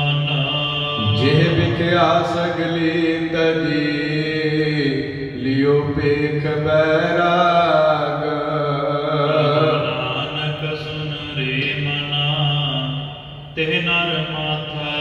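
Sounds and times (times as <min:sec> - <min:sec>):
person chanting melodically: 0:00.0 - 0:15.0
steady low drone: 0:00.0 - 0:15.0.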